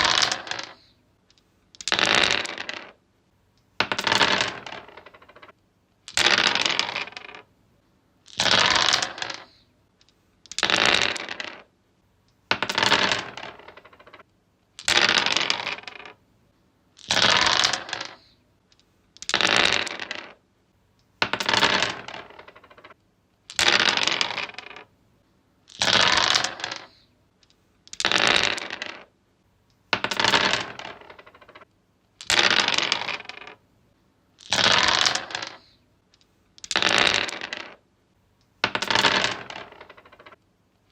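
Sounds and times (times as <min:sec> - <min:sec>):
dice rolling on wood: 0:00.0 - 0:03.0, 0:03.6 - 0:07.5, 0:08.2 - 0:11.7, 0:12.3 - 0:16.2, 0:17.0 - 0:20.4, 0:21.0 - 0:24.9, 0:25.7 - 0:33.6, 0:34.4 - 0:40.9.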